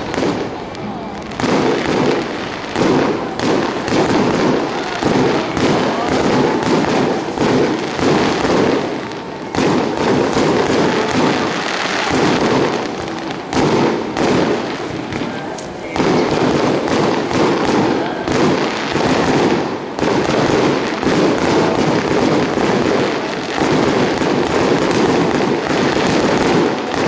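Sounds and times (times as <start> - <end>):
fireworks crackle: 0.0 - 27.0
fireworks shells bursting: 0.0 - 27.0.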